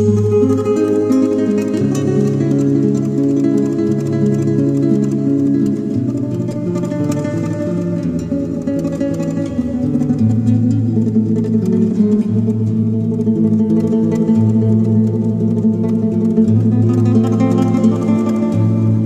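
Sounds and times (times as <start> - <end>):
spanish guitar music: 0.0 - 19.0.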